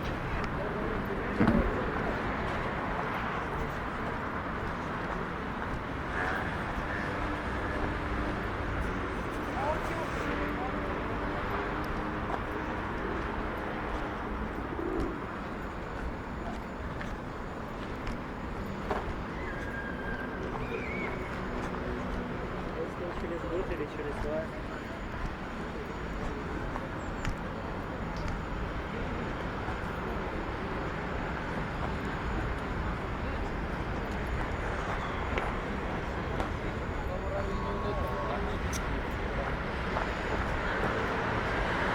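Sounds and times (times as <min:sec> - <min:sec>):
city street hum: 0:00.0 - 0:41.9
traffic noise: 0:00.0 - 0:41.9.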